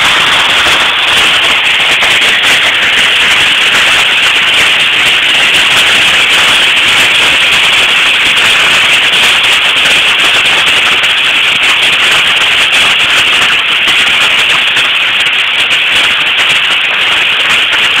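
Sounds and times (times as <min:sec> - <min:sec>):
hailstones pelting down: 0:00.0 - 0:18.0.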